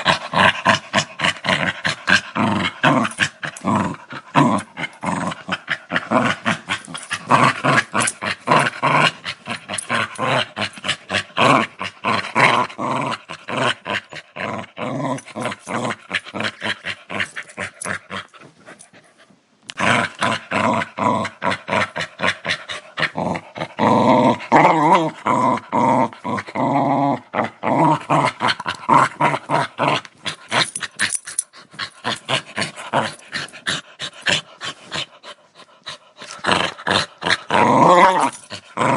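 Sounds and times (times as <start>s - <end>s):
dog growling: 0.0s - 18.9s, 19.7s - 38.9s.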